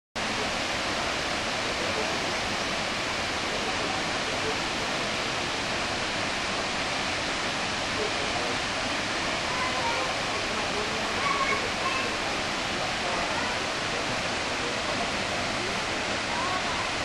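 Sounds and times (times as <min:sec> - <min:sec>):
waterfall rushing: 0:00.2 - 0:17.0.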